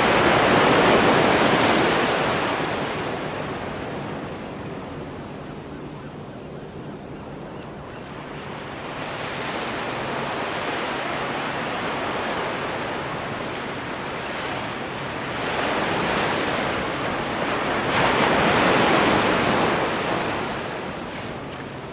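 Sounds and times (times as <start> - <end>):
ocean surf on beach: 0.0 - 21.9.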